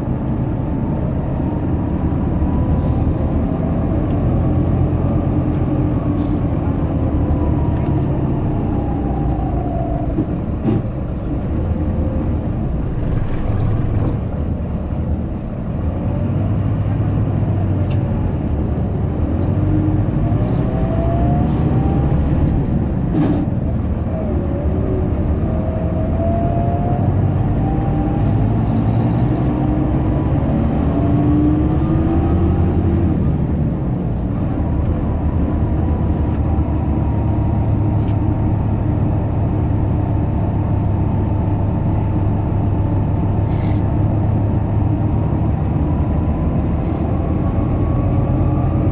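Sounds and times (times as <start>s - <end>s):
coach engine rumble and whine: 0.0s - 48.9s.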